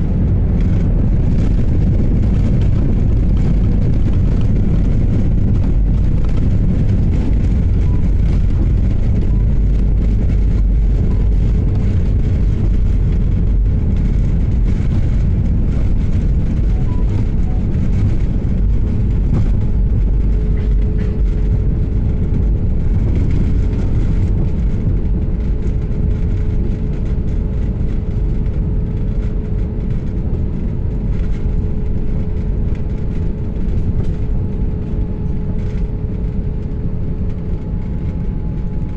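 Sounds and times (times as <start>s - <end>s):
jet engines in cabin: 0.0s - 38.9s.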